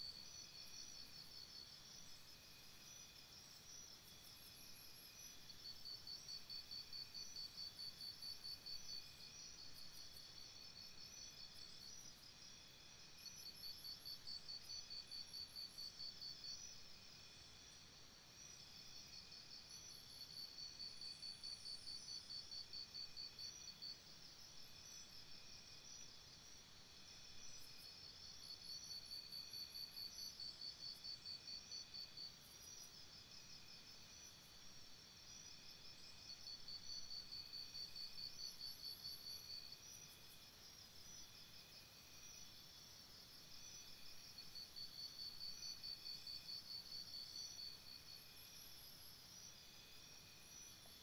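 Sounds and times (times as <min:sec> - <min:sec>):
faint insect chirring: 0:00.0 - 0:51.0.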